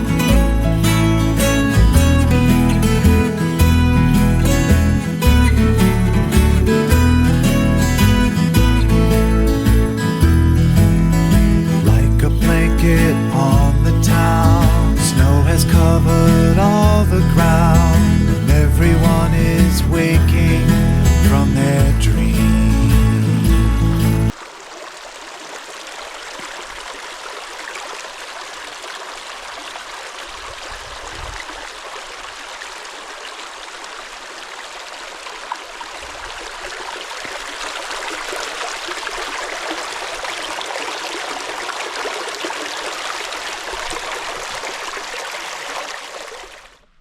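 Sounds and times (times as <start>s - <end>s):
stream rushing over rocks: 0.0s - 18.5s, 24.3s - 47.0s.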